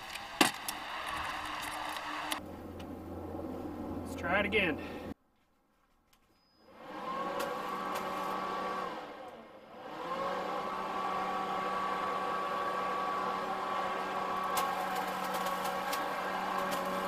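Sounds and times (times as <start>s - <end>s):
leaf vacuum motor whine: 0.0s - 4.4s, 6.6s - 17.0s.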